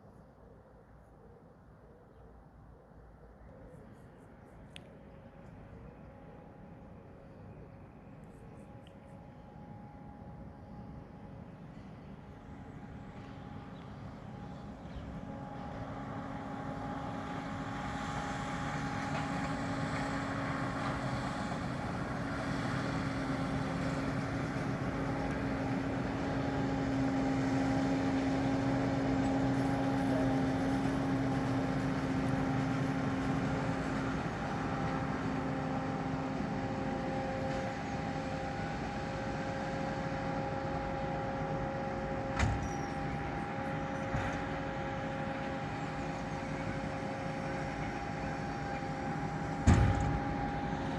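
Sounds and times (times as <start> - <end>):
tractor and baler droning: 5.5 - 50.9.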